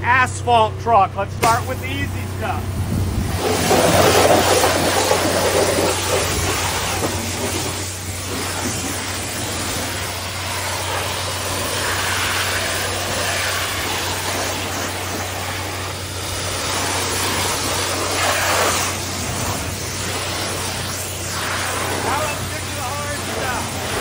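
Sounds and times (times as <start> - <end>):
low engine hum: 0.0 - 24.0
pressure washer spray hissing: 1.4 - 24.0.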